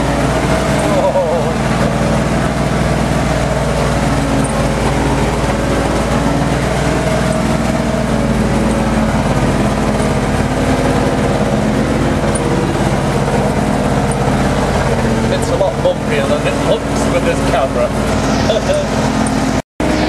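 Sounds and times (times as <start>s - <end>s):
truck engine droning under load: 0.0s - 20.0s.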